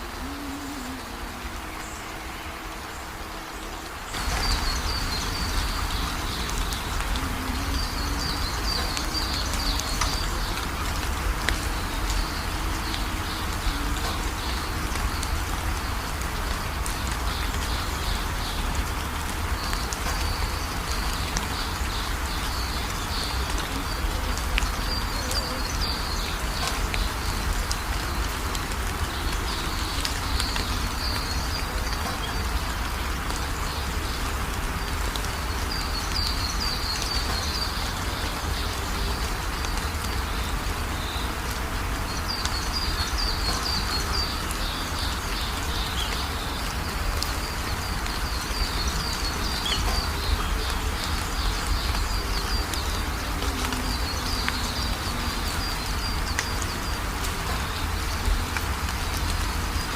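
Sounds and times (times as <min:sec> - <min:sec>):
steady rain in forest: 0:00.0 - 0:59.9.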